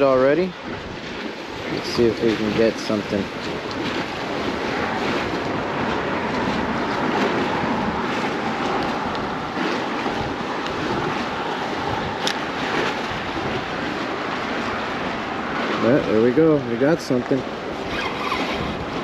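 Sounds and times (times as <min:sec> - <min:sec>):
choppy sea water: 0:00.0 - 0:19.0
wind on microphone: 0:00.0 - 0:19.0.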